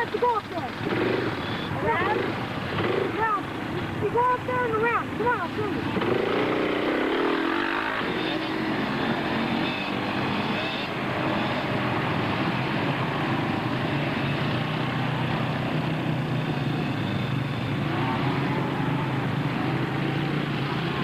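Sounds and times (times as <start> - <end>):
quad engines droning: 0.0 - 21.0.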